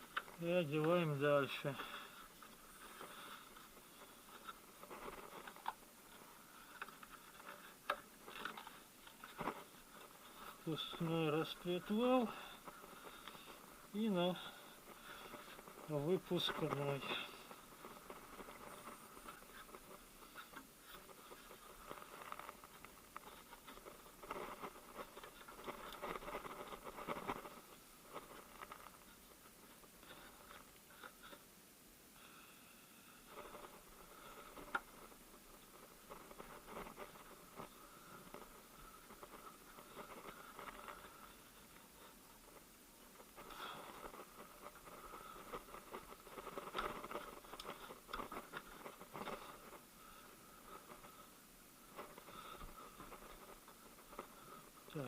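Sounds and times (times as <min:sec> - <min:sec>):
hands rustling on belt: 0:00.0 - 0:31.6, 0:33.0 - 0:55.0.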